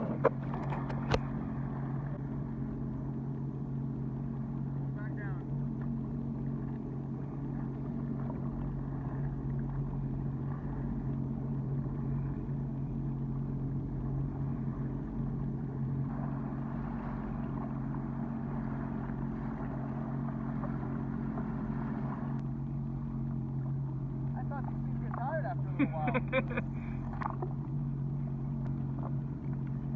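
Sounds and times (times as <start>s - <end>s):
jet ski engine idling: 0.0s - 29.9s.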